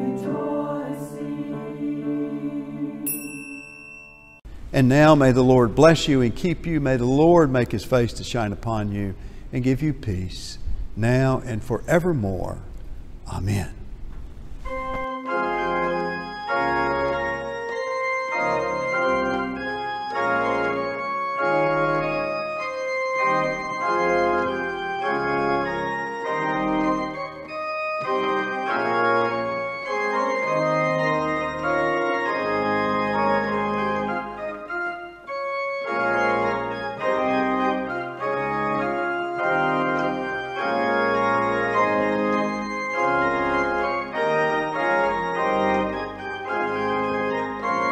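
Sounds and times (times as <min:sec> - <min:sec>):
organ playing chords: 0:00.0 - 0:03.2, 0:04.6 - 0:10.4, 0:14.6 - 0:47.9.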